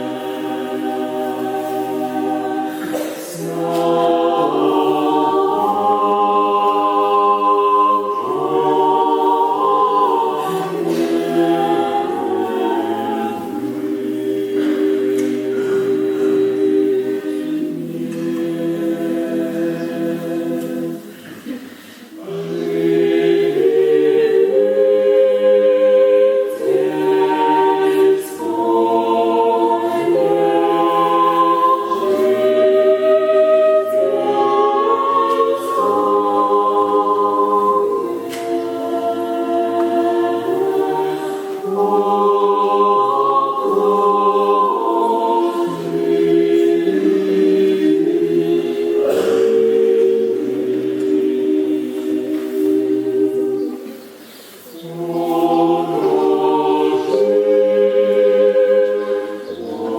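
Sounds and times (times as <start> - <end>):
choir singing unaccompanied chant: 0.0 - 59.9.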